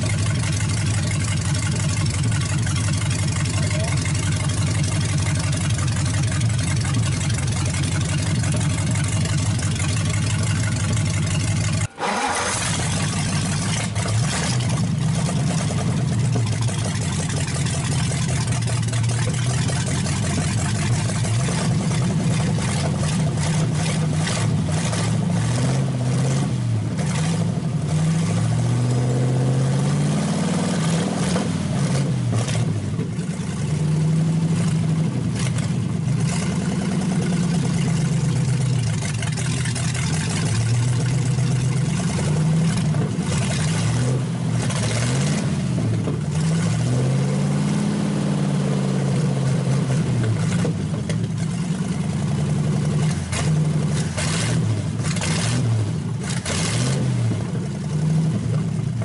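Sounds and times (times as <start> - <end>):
engine revving on open headers: 0.0 - 59.0.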